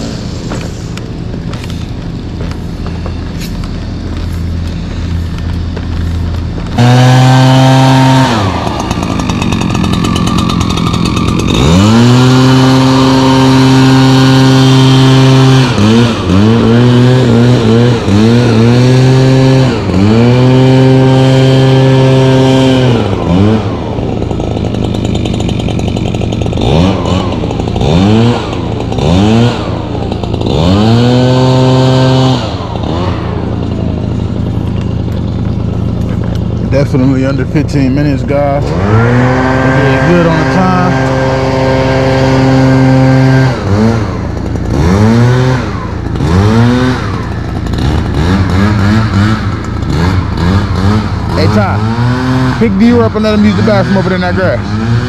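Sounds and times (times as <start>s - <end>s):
small gasoline engine revving: 0.0s - 55.0s.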